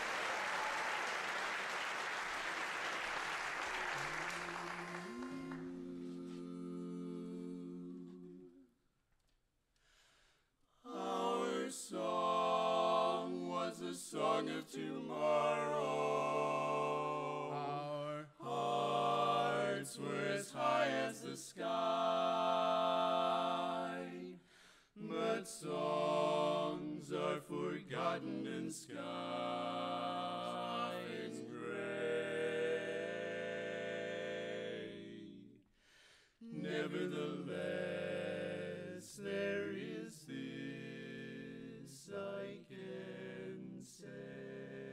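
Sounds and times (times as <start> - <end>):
male quartet singing a cappella: 4.3 - 8.6, 10.9 - 35.6, 36.4 - 44.9.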